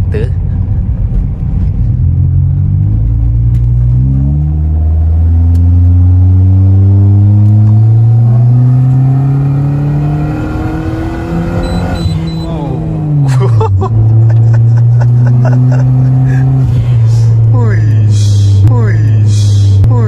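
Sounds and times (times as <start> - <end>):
turbocharged car engine accelerating: 0.5 - 20.0.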